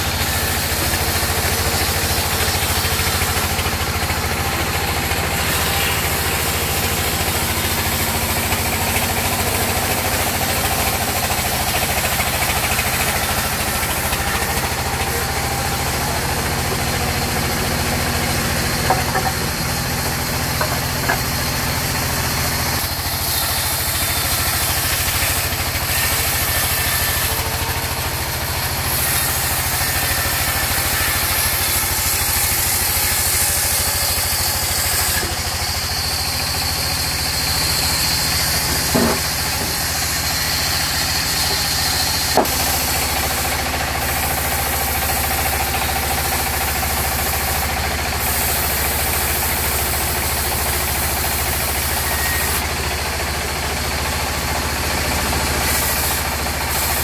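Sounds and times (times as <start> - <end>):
band saw drive hum: 0.0 - 57.0
saw blade cutting wood: 0.0 - 57.0.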